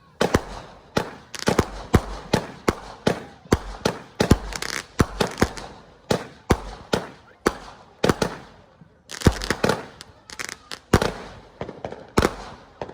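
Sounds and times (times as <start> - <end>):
fireworks crackling: 0.0 - 12.9
fireworks exploding: 0.0 - 12.9.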